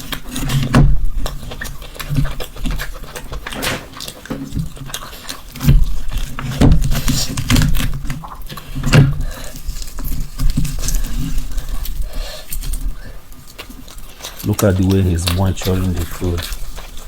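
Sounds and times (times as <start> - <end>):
wet chewing and mouth clicks: 0.0 - 17.0.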